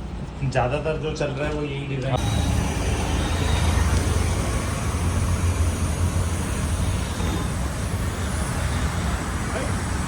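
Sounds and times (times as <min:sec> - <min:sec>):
road traffic noise: 0:00.0 - 0:10.0
vehicle rumble with low hum: 0:01.5 - 0:10.0.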